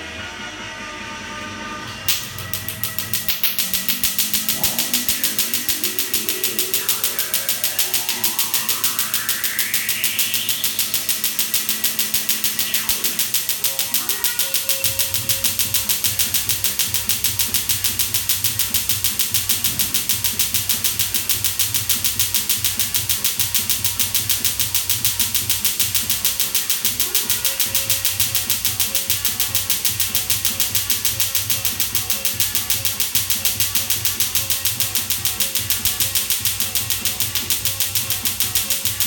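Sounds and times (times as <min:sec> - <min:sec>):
laser snapping pulses: 0:02.1 - 0:39.0.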